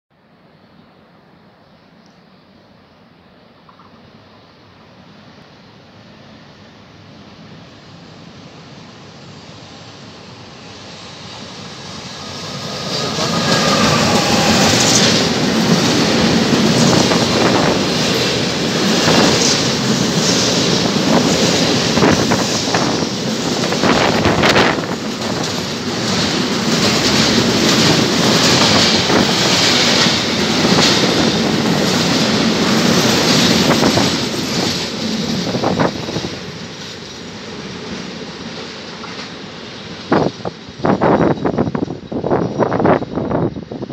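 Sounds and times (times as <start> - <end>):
electric locomotive whine: 0.2 - 43.9.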